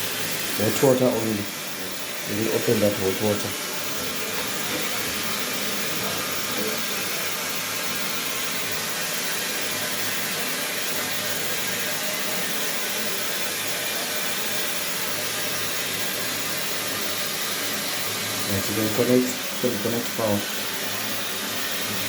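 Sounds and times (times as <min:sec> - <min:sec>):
water tap running with hiss: 0:00.0 - 0:22.0.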